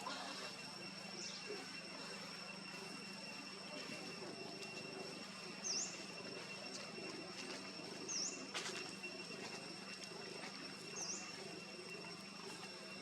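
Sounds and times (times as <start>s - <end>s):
high-pitched drone: 0.0s - 13.0s.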